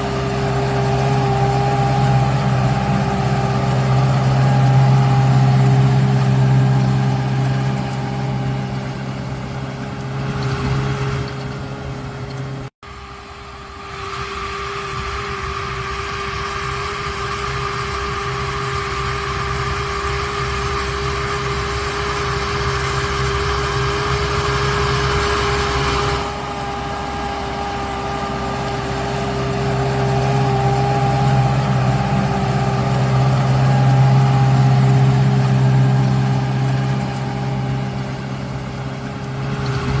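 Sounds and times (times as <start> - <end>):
diesel farm machine engine: 0.0 - 40.0.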